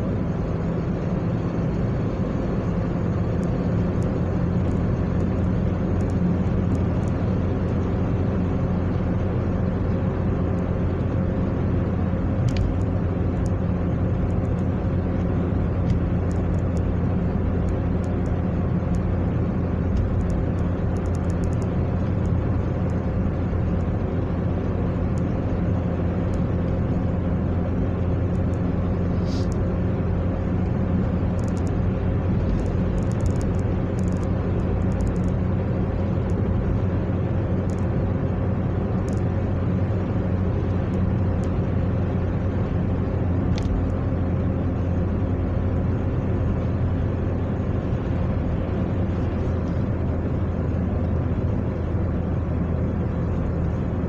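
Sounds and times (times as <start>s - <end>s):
car driving heard from inside: 0.0s - 54.0s.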